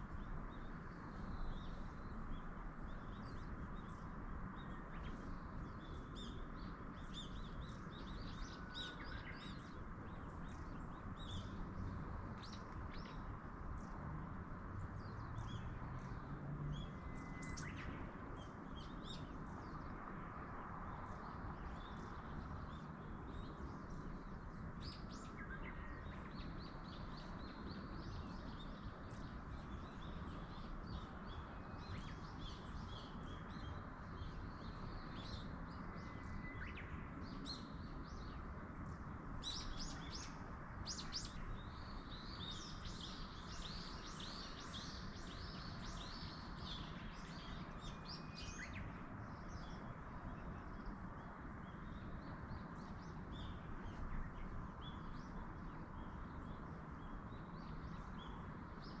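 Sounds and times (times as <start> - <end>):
low rush of wind or water: 0.0 - 59.0
small birds chirping and trilling: 0.0 - 59.0.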